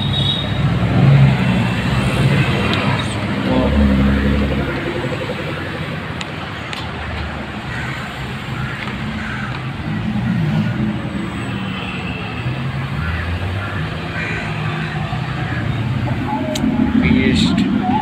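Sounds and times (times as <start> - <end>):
cars driving slowly past: 0.0 - 11.5, 12.5 - 18.0.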